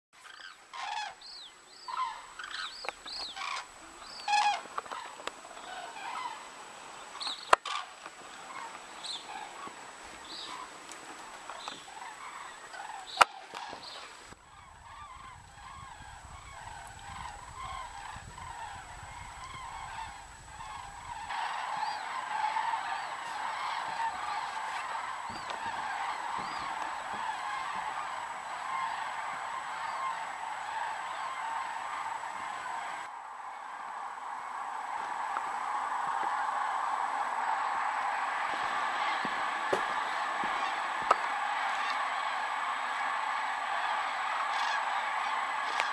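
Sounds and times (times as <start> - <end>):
cranes calling: 0.2 - 45.9.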